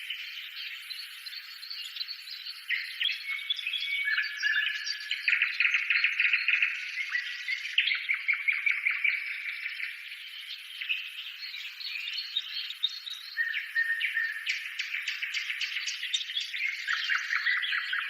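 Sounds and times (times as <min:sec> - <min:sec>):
small birds chirping and trilling: 0:00.0 - 0:18.0.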